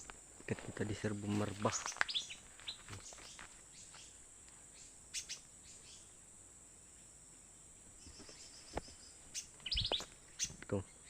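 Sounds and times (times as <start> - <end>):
birds chirping: 0.0 - 11.0
faint insect hum: 0.0 - 11.0.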